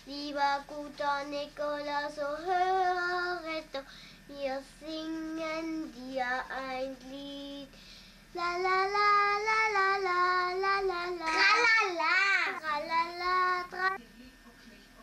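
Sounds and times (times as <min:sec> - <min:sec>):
girl singing unaccompanied: 0:00.0 - 0:07.7, 0:08.3 - 0:14.0.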